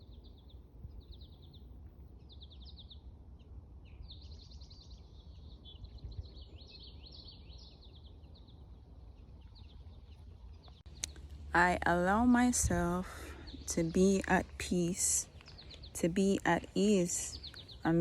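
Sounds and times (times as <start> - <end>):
faint low rumble: 0.0 - 18.0
small songbirds chirping: 0.0 - 18.0.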